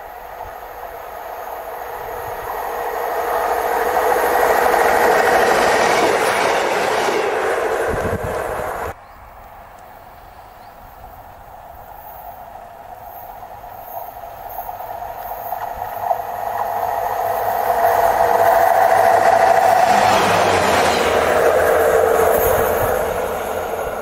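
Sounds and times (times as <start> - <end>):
diesel railbus approaching: 0.0 - 24.0
passing train: 0.0 - 24.0.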